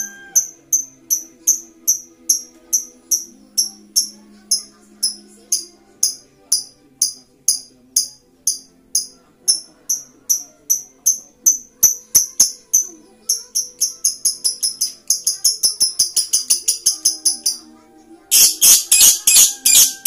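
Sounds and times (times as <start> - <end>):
bird chirping: 0.0 - 6.7, 7.5 - 17.7, 18.3 - 20.0.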